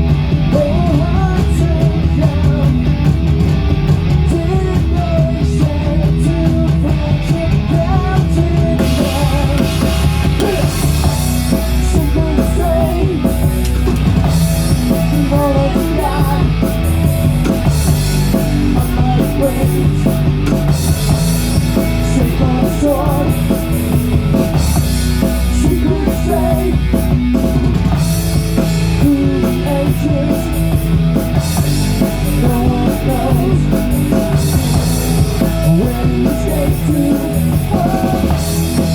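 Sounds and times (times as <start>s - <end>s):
bass guitar: 0.0s - 38.9s
drum kit with cymbals: 0.0s - 38.9s
electric guitar: 0.0s - 38.9s.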